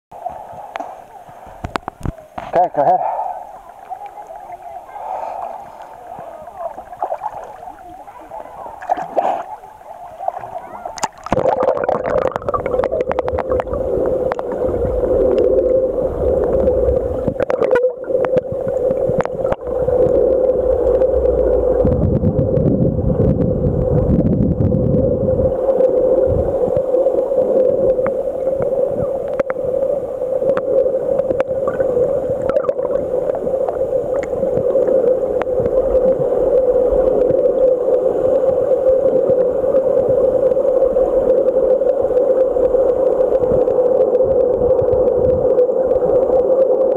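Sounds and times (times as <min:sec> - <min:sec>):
low underwater rumble: 0:00.1 - 0:46.9
underwater hum: 0:00.1 - 0:46.9.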